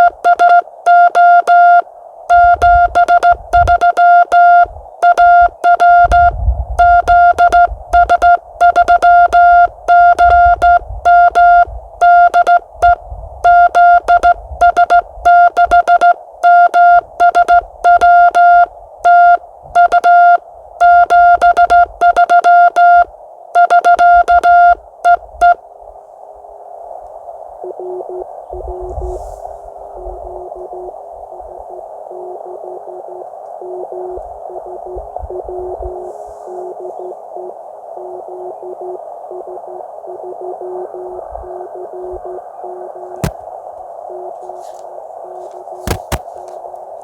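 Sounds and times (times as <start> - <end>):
morse code tone: 0.0 - 25.6, 27.6 - 29.0, 31.7 - 43.3, 44.1 - 44.7.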